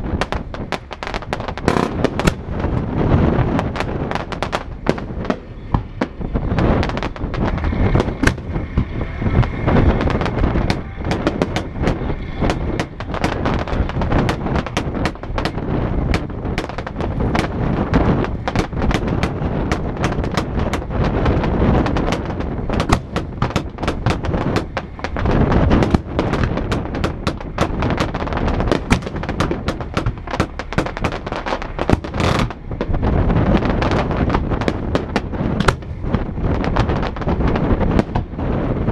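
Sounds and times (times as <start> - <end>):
continuous rumble: 0.0 - 38.9
fireworks bursts and crackling: 0.0 - 38.9.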